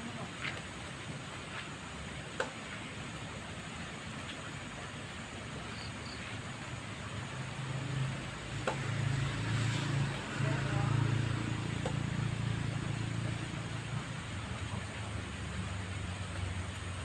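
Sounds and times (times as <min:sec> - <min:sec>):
rain hissing: 0:00.0 - 0:17.0
low engine hum: 0:03.1 - 0:17.0.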